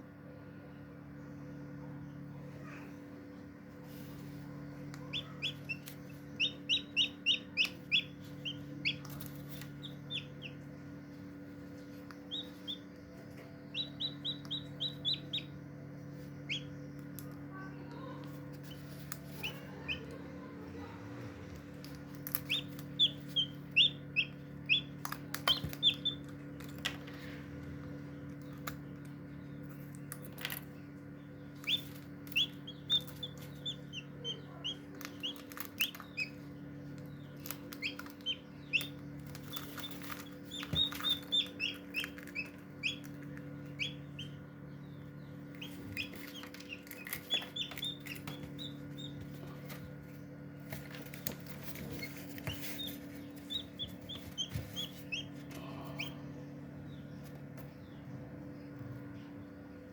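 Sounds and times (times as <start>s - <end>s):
steady low hum: 0.0s - 59.9s
chick peeping: 3.9s - 26.9s, 27.9s - 59.7s.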